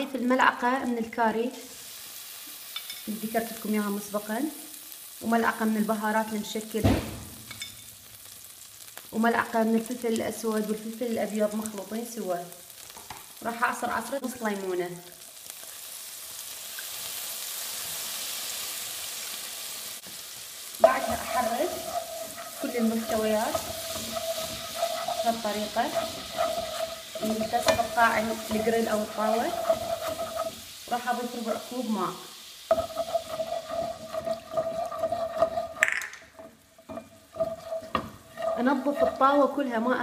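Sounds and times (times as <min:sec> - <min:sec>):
juice sizzling in a hot pan: 0:00.0 - 0:40.0.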